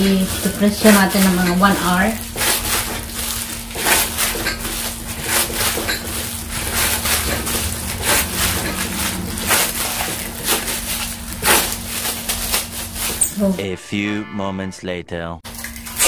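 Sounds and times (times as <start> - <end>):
plastic wrap crinkling: 0.0 - 13.6
steady low hum: 0.0 - 13.9.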